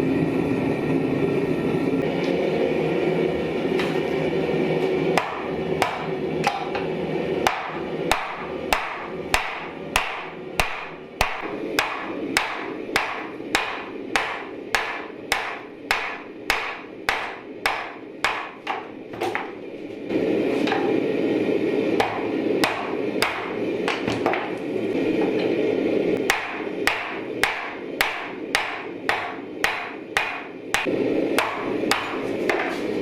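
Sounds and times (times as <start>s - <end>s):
forge burner roaring: 0.0s - 33.0s
hammer striking hot steel: 3.5s - 33.0s.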